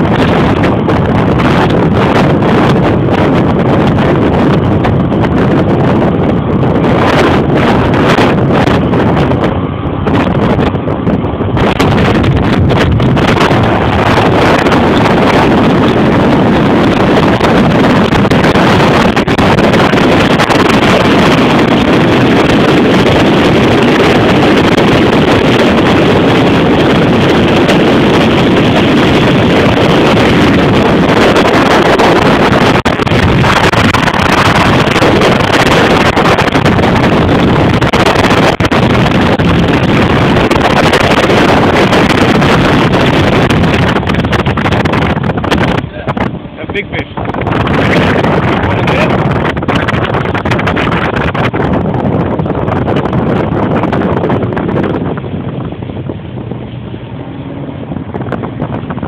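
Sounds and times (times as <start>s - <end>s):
outboard motor running: 0.0s - 59.0s
water rushing past hull: 0.0s - 59.0s
wind buffeting microphone: 0.0s - 59.0s.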